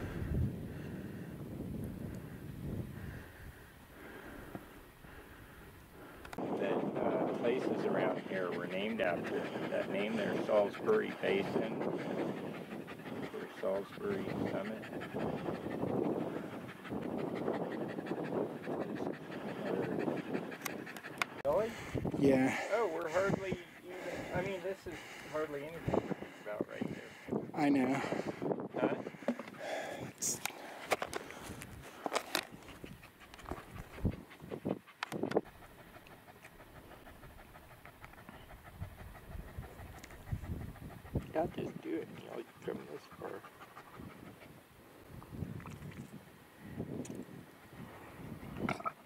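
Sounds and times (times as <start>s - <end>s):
dog panting: 5.1s - 44.7s.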